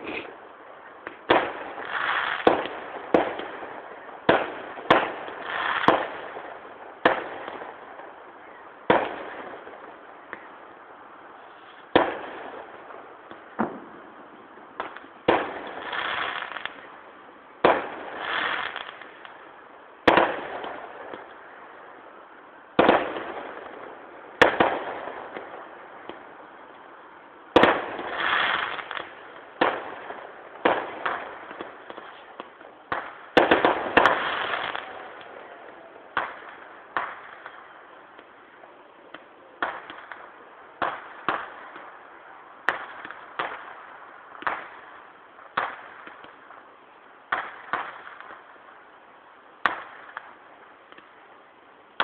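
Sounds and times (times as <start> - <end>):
distant firework bangs: 0.0 - 10.6, 11.4 - 17.0, 17.6 - 21.5, 22.7 - 26.8, 27.5 - 46.7, 47.3 - 48.6
firework crackle: 0.0 - 52.0.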